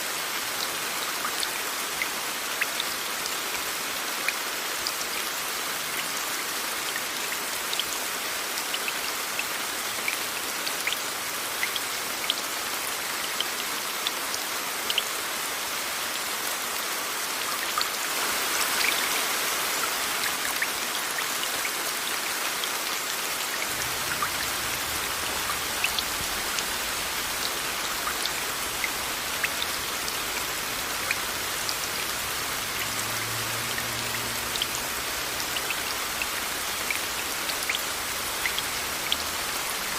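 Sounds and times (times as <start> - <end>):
steady rain with ticking drops: 0.0 - 39.9.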